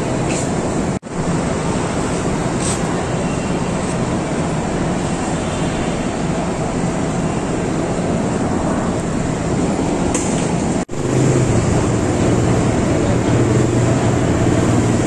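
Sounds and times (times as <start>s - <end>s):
motorcycle road noise: 0.0s - 15.0s.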